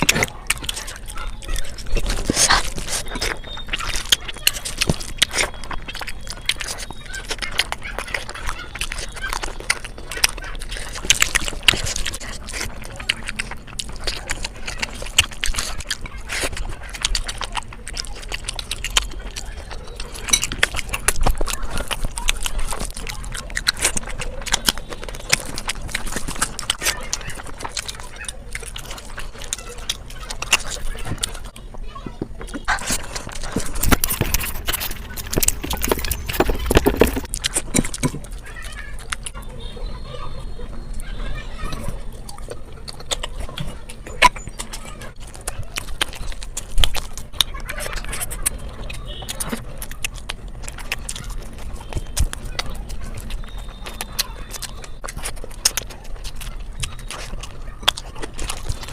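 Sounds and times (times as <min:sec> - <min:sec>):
wet chewing and crunching: 0:00.0 - 0:58.9.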